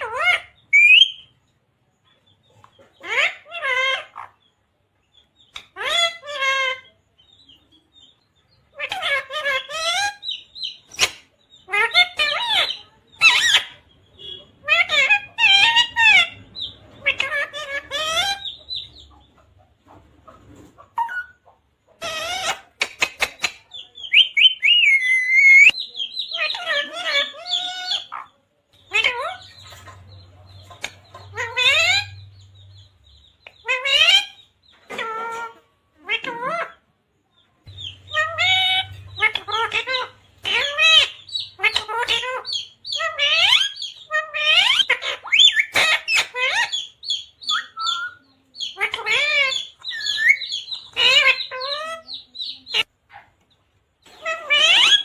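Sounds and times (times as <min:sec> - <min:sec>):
parrot squawky chattering: 0:00.0 - 0:01.3, 0:02.9 - 0:04.4, 0:05.5 - 0:07.5, 0:08.7 - 0:19.5, 0:20.7 - 0:36.9, 0:37.6 - 0:53.4, 0:54.0 - 0:55.0.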